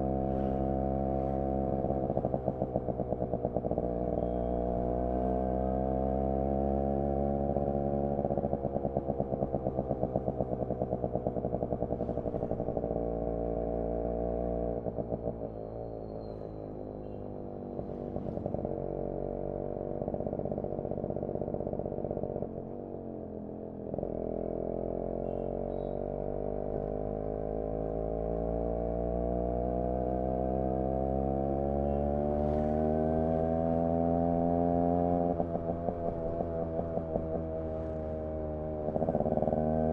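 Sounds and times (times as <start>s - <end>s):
two-stroke motorcycle engine: 0.0s - 39.9s.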